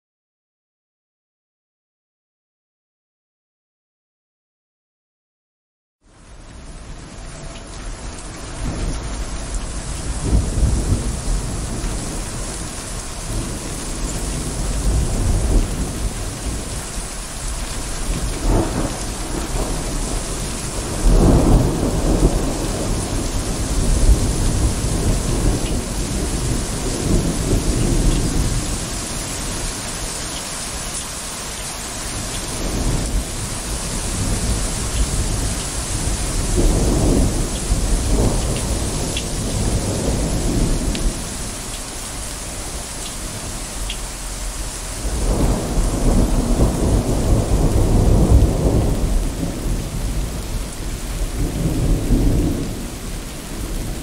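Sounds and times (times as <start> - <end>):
steady rain hissing: 6.0 - 54.0
thunder rumbling: 7.3 - 54.0.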